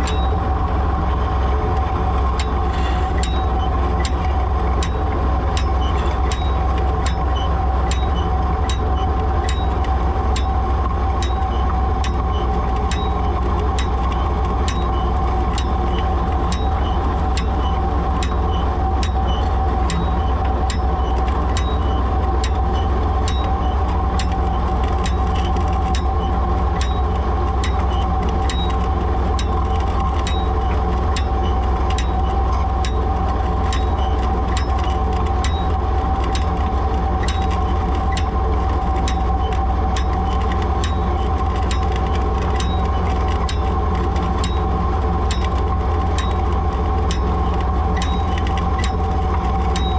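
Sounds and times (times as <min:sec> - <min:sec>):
tractor engine running under load: 0:00.0 - 0:49.9
regular clicking: 0:01.8 - 0:10.6, 0:11.2 - 0:49.9.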